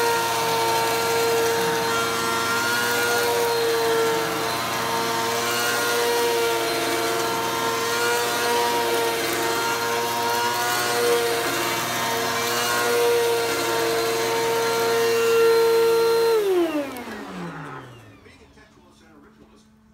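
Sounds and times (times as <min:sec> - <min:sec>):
vacuum cleaner motor whine: 0:00.0 - 0:19.2.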